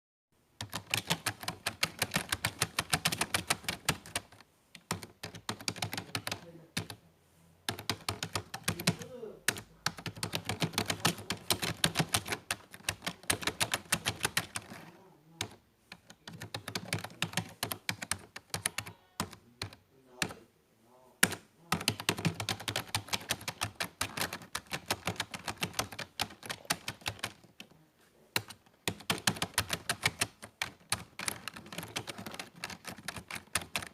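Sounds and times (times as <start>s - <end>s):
computer keyboard typing: 0.6s - 7.0s, 7.7s - 20.4s, 21.2s - 27.7s, 28.4s - 33.9s.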